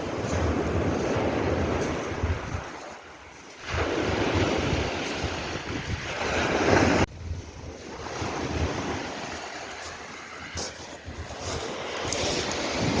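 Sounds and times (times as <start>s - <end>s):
sea waves washing in: 0.0s - 13.0s
wind buffeting microphone: 0.0s - 13.0s.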